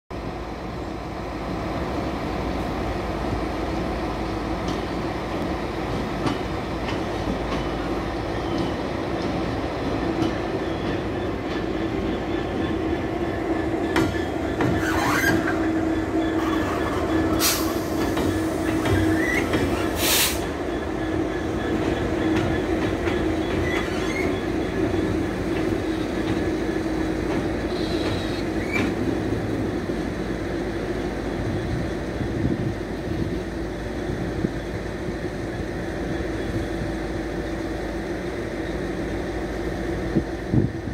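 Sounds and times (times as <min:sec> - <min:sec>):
diesel locomotive engine drone: 0:00.1 - 0:40.9
train wheels on track: 0:00.1 - 0:40.9.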